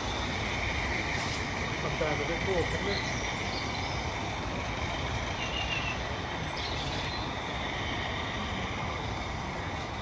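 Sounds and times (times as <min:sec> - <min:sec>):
model steam locomotive rushing: 0:00.0 - 0:10.0.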